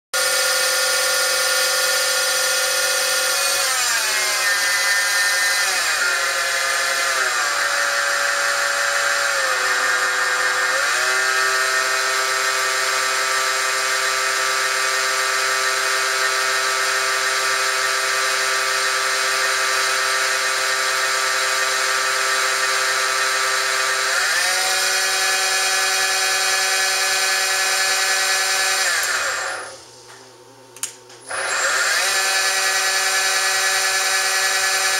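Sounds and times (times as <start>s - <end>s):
lathe motor whining: 0.2s - 30.0s, 31.2s - 34.9s.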